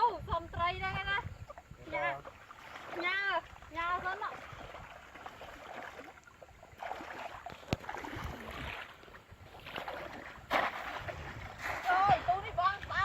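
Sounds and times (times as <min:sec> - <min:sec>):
water sloshing and splashing: 0:00.2 - 0:13.0.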